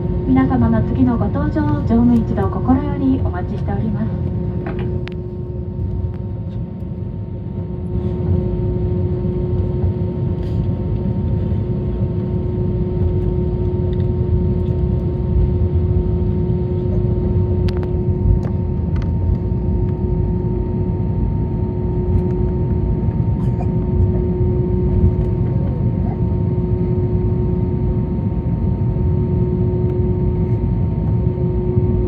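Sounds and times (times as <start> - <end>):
constant hum: 0.0 - 32.0
jet engines idling rumble: 0.0 - 32.0.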